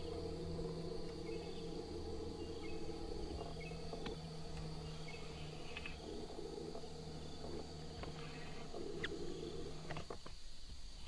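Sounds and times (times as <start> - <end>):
insects chirping: 0.0 - 11.0
steady low hum: 0.0 - 11.0.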